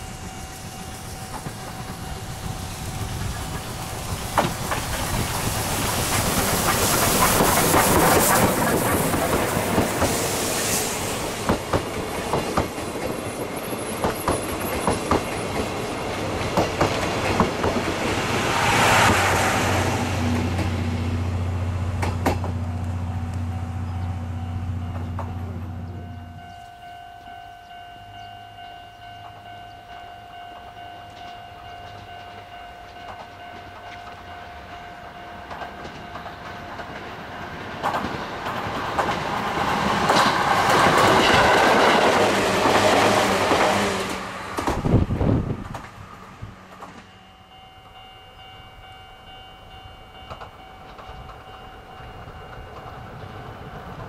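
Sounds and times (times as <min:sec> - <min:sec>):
train wheels clicking over rail joints: 0:00.0 - 0:24.1, 0:24.8 - 0:26.6, 0:30.5 - 0:47.2, 0:50.2 - 0:54.0
electric train approaching: 0:00.0 - 0:54.0.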